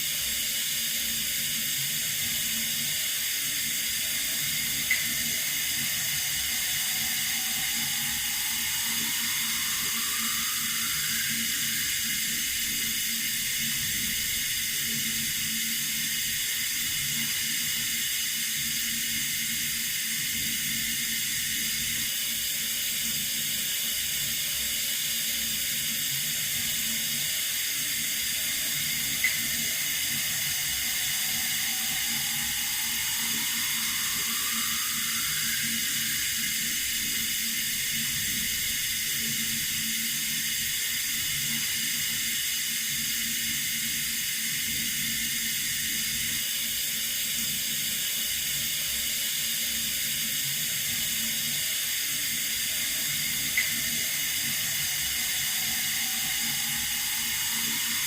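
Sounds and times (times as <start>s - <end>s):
tap water running: 0.7s - 22.0s, 25.0s - 46.2s, 50.3s - 58.0s.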